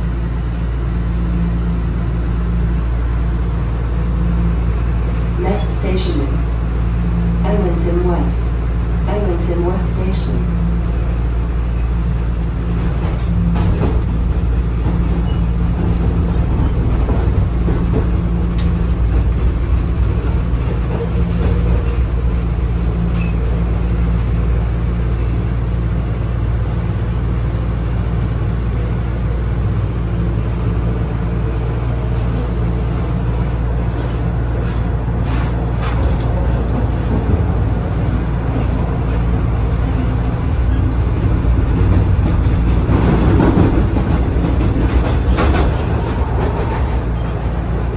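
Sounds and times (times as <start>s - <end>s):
rumble of train wheels on rail: 0.0s - 47.9s.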